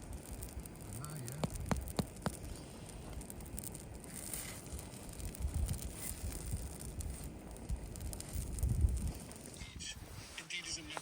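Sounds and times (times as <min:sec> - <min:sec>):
bread sizzling in a pan: 0:00.0 - 0:09.7
low rumbles: 0:00.0 - 0:11.0.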